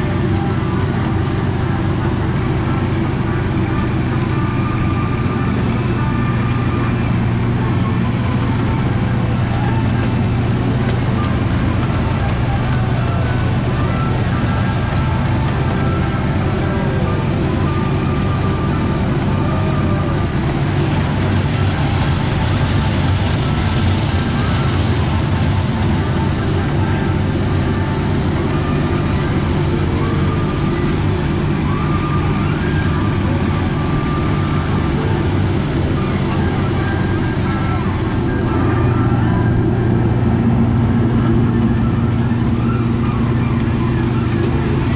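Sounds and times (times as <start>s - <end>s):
ride train rumbling on track: 0.0s - 44.9s.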